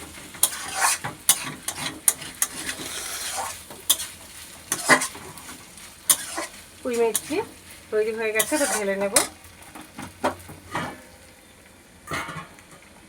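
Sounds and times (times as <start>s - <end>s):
spoon scraping a pan: 0.0s - 11.2s
vegetables sizzling in a pan: 0.0s - 13.0s.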